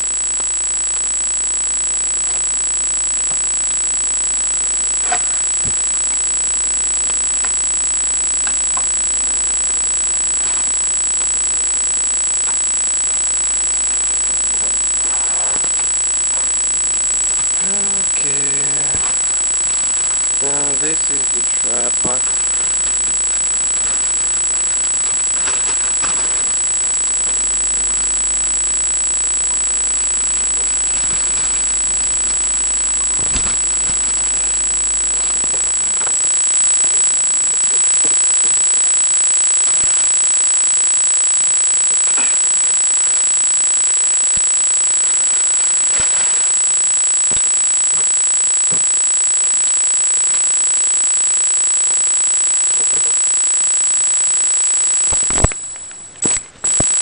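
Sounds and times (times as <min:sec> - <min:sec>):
high-pitched electronic whine: 0:00.0 - 0:57.0.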